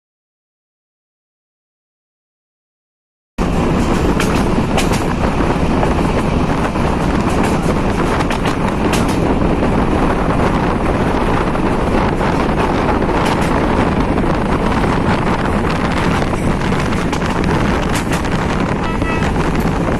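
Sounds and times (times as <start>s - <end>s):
train rumbling along track: 3.4s - 19.9s
wind buffeting microphone: 3.4s - 19.9s.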